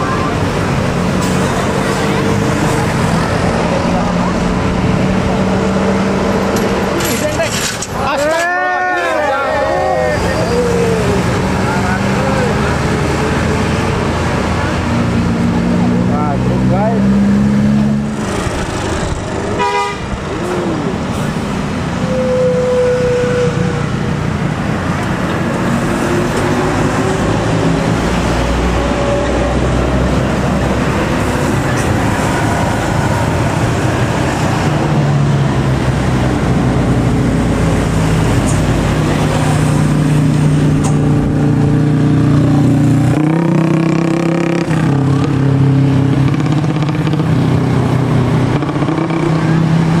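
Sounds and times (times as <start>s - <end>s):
buses and cars passing: 0.0s - 50.0s.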